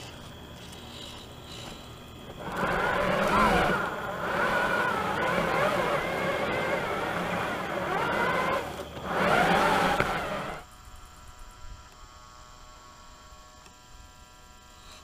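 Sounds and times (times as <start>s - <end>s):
electric motors whining: 0.0s - 15.0s
faint hum: 0.0s - 15.0s.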